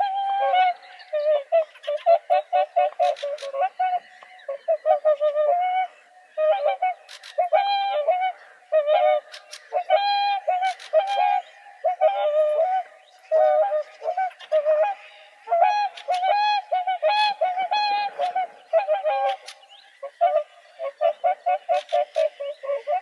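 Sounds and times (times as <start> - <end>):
swans honking: 0.0 - 5.4, 6.5 - 23.0.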